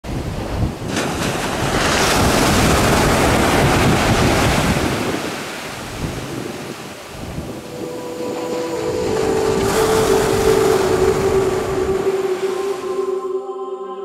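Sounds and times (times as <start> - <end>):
wind buffeting microphone: 0.0 - 12.8
surf breaking on beach: 0.1 - 13.1.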